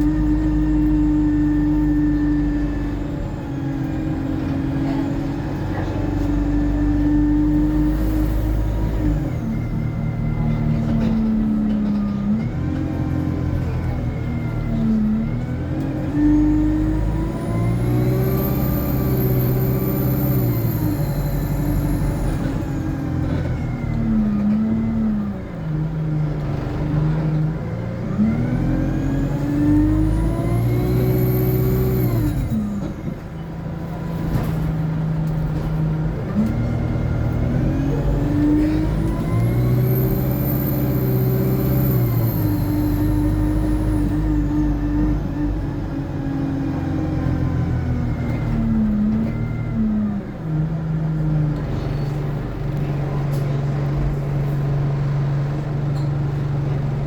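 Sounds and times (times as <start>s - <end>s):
bus diesel engine accelerating: 0.0s - 57.0s.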